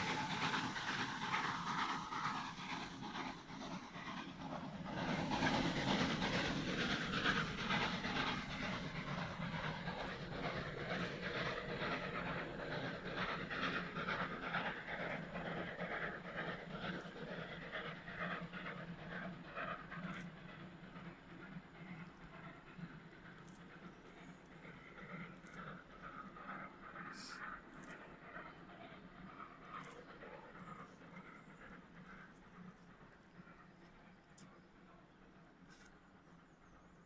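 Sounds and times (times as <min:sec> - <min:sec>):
low rumble of train: 0:00.0 - 0:37.0
steam locomotive chuffing: 0:00.0 - 0:37.0.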